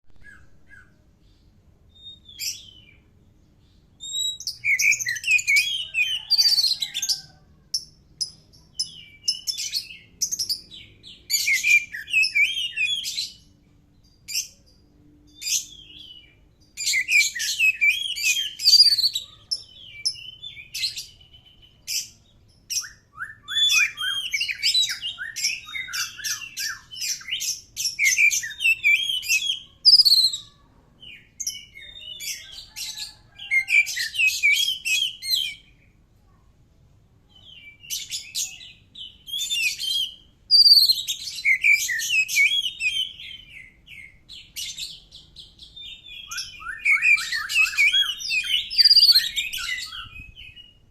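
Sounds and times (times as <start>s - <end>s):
bird singing: 0.1s - 36.0s, 37.3s - 50.9s.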